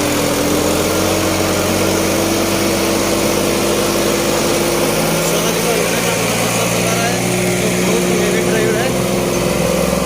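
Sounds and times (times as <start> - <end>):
tractor diesel engine under load: 0.0 - 10.0.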